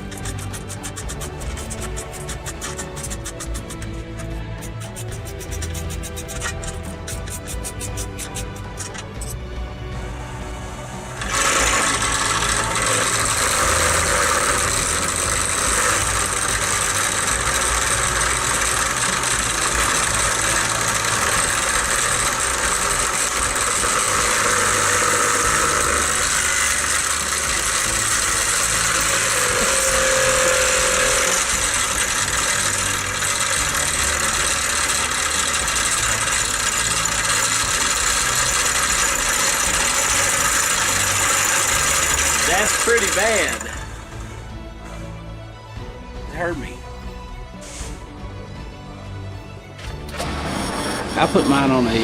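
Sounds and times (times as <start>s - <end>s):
grinder rattling on its stand: 0.0s - 9.4s, 11.2s - 44.2s
bench grinder running: 0.0s - 45.2s, 49.9s - 52.0s.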